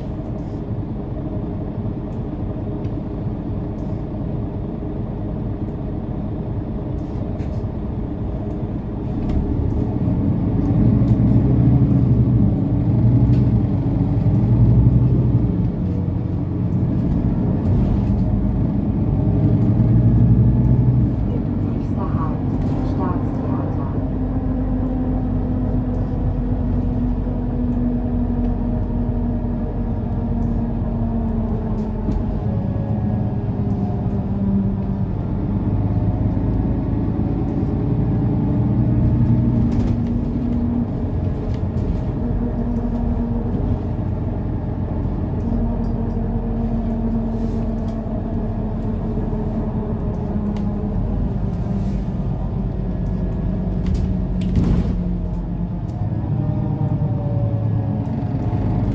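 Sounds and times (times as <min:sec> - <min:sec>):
bus engine running: 0:00.0 - 0:58.9.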